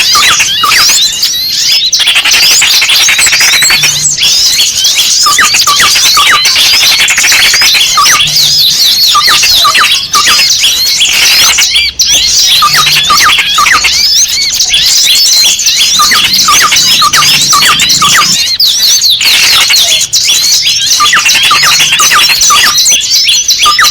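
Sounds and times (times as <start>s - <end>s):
small songbirds chirping: 0.0s - 23.9s.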